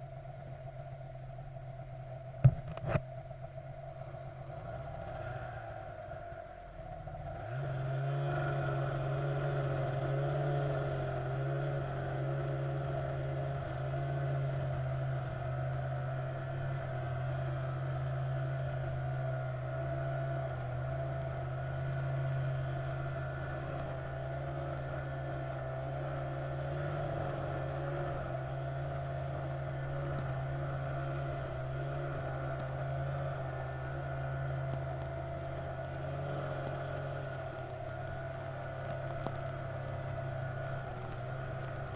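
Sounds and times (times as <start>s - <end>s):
vehicle engine running steadily: 0.0s - 41.9s.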